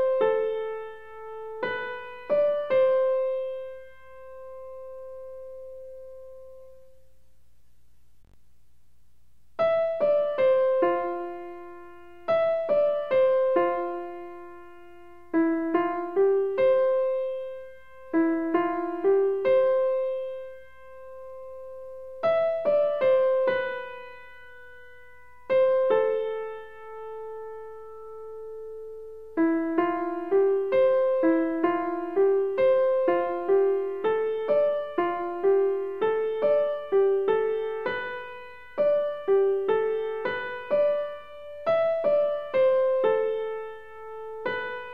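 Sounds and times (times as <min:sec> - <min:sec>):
slow piano melody: 0:00.0 - 0:07.1, 0:09.6 - 0:44.9.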